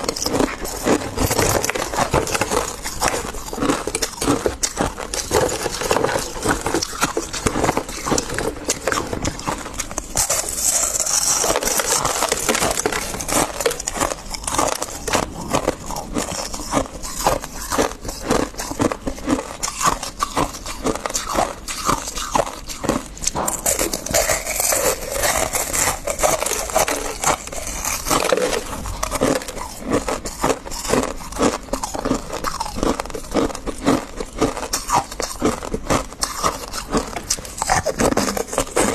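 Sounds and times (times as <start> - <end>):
frost being scraped and chewed: 0.0 - 38.9.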